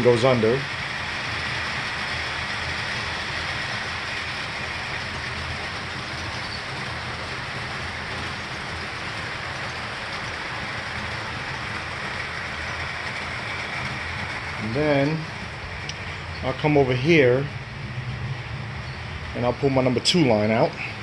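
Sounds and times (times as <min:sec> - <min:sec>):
model train motors whirring: 0:00.0 - 0:21.0
wheels rolling on track: 0:00.0 - 0:21.0.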